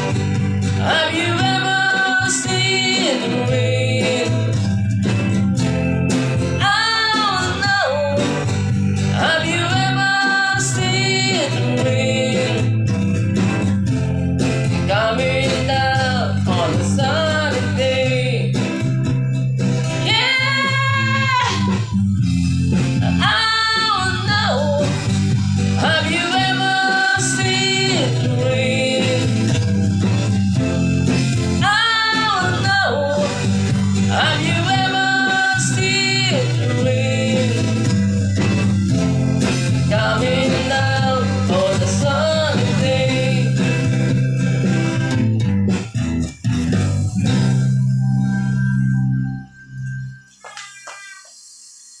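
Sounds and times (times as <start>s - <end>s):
person singing rock song: 0.0s - 45.6s
guitar accompaniment: 0.0s - 51.6s.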